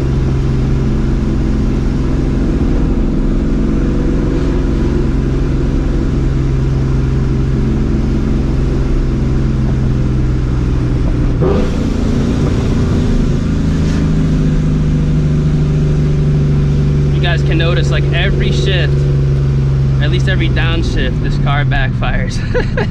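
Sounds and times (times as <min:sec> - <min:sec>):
car engine cruising: 0:00.0 - 0:22.9.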